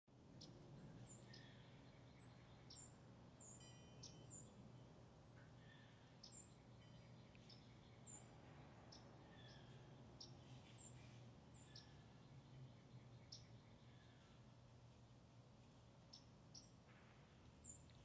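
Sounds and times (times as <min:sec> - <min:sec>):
low steady background hum: 0:00.1 - 0:18.0
songbirds chirping: 0:00.2 - 0:18.0.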